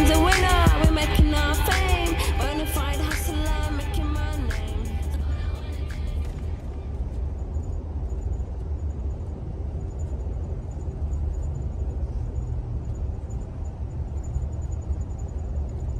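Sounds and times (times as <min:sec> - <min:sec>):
train car low rumble: 0:00.0 - 0:15.9.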